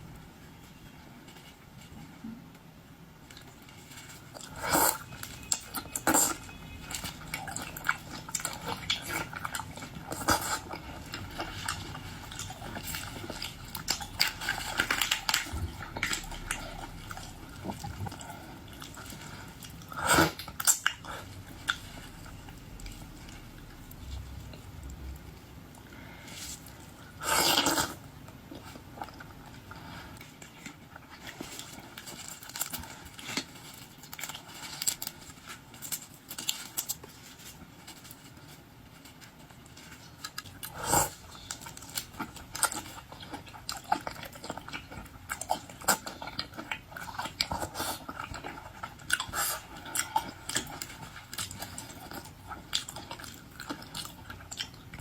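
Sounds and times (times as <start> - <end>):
chewing and crunching shellfish: 3.2 - 55.0.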